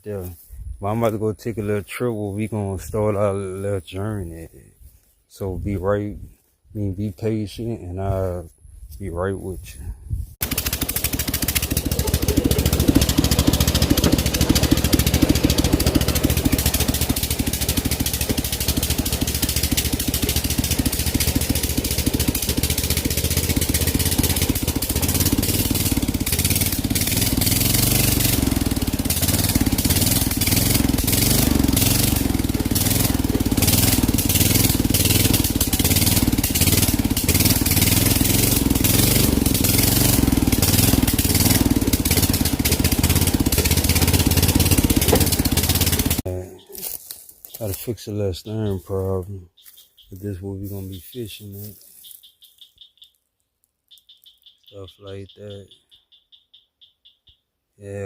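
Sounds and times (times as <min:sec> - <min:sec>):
riding lawn mower engine: 0:00.0 - 0:09.7, 0:10.3 - 0:53.2.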